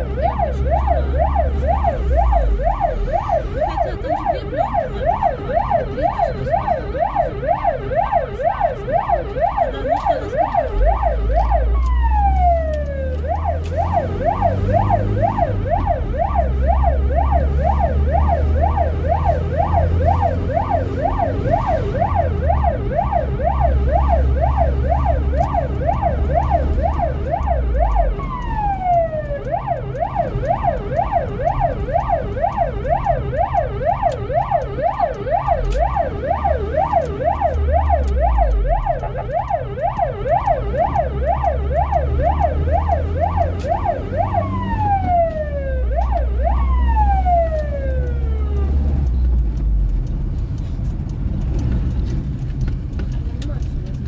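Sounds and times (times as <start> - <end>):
ambulance siren yelping: 0.0 - 49.0
engine low rumble: 0.0 - 54.0.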